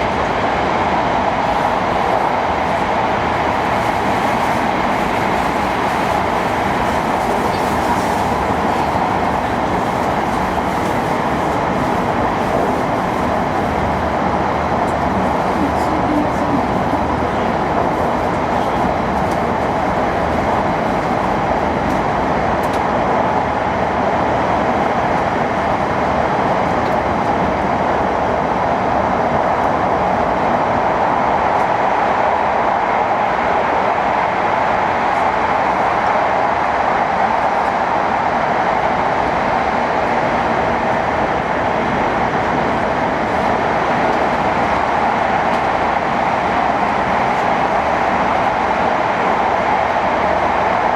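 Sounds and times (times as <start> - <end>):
train rumble and rushing: 0.0 - 50.9.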